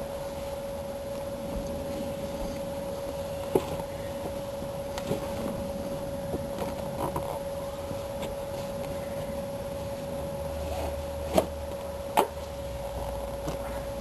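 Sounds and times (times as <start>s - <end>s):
steady high hum: 0.0s - 14.0s.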